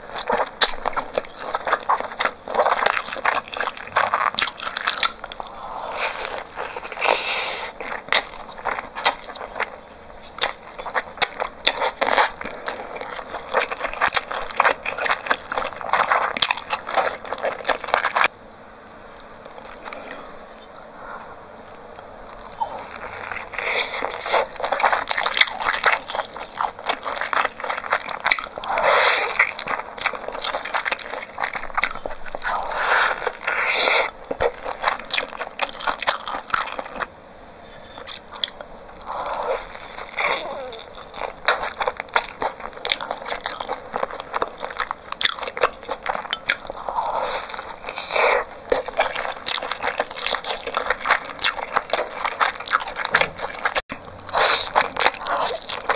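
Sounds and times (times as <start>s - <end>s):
close-miked chewing food: 0.0s - 18.3s, 22.0s - 55.9s.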